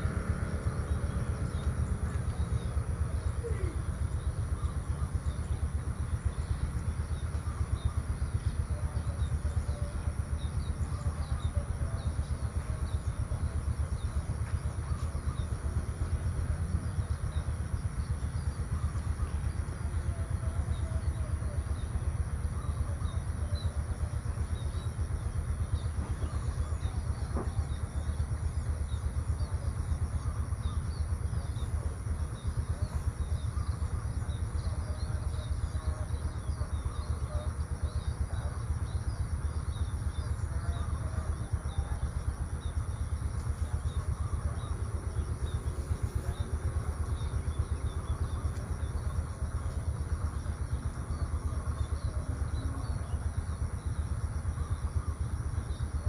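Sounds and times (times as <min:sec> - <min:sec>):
faint bird chirps: 0:00.0 - 0:56.0
steady low rumble: 0:00.0 - 0:56.0.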